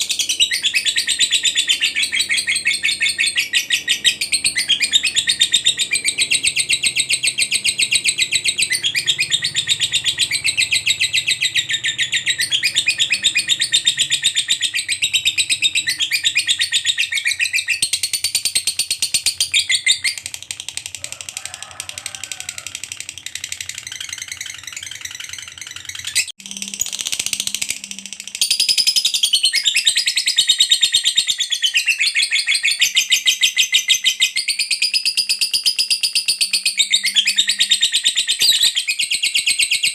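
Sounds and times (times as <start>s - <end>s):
lovebird chattering trill: 0.0s - 20.4s, 21.0s - 39.9s.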